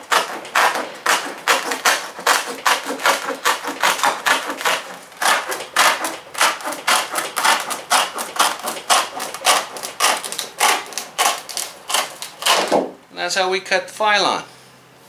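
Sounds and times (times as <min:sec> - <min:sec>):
tin snips cutting plastic sheet: 0:00.0 - 0:12.8.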